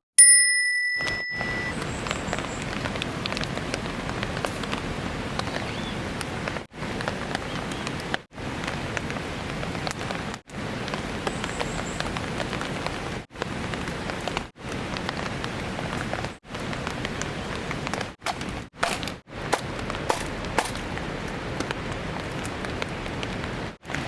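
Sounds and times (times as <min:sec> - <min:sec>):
steady rain falling: 0:01.7 - 0:24.0.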